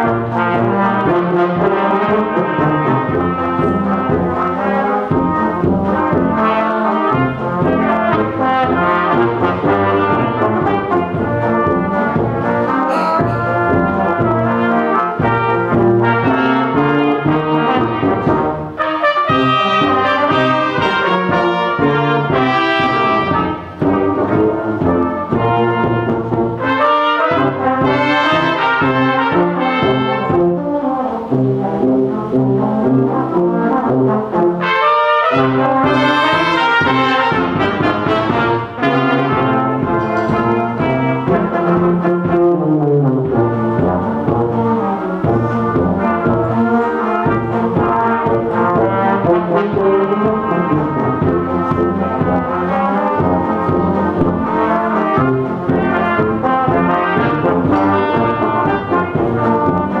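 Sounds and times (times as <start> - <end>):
brass band playing slow piece: 0.0 - 60.0.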